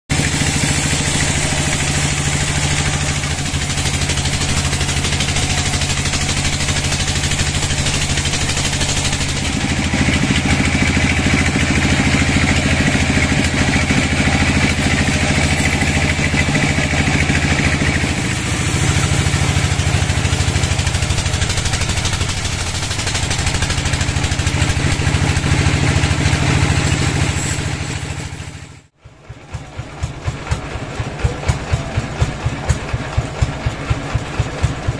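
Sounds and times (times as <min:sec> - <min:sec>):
high saw hiss: 0:00.1 - 0:28.6
band saw droning with rattle: 0:00.1 - 0:34.9.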